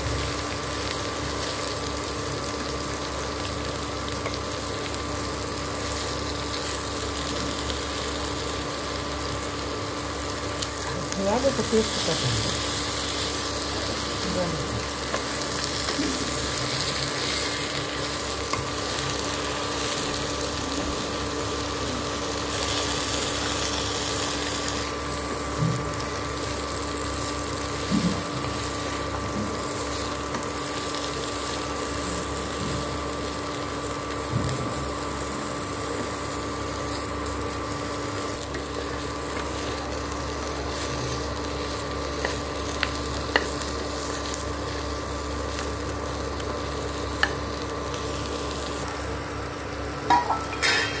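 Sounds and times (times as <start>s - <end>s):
vegetables sizzling in hot oil: 0.0s - 51.0s
steady hum: 2.0s - 51.0s.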